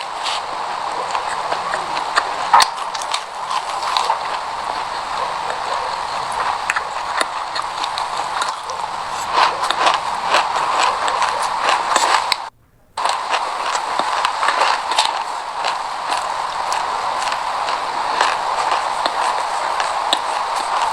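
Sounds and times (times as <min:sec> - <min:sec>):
chewing crunchy seeds: 0:00.0 - 0:20.9.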